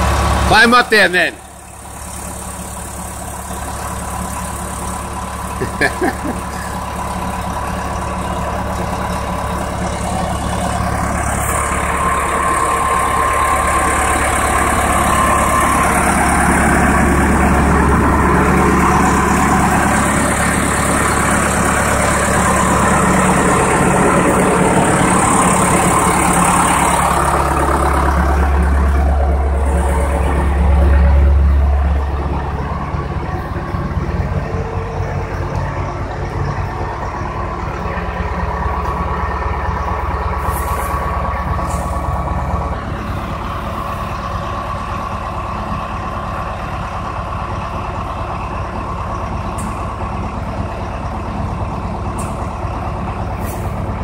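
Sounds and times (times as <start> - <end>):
bulldozer diesel engine idling: 0.0 - 54.0.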